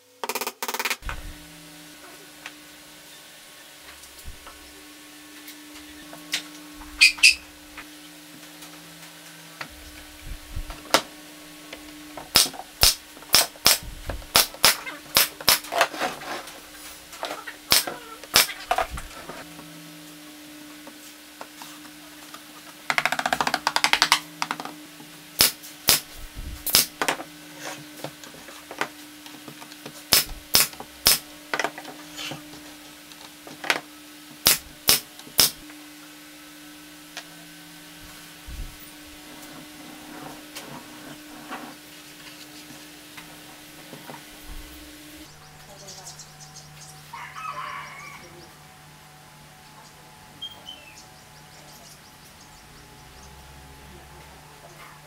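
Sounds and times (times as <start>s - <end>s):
low hum: 1.0s - 29.4s, 30.2s - 47.1s, 48.2s - 55.0s.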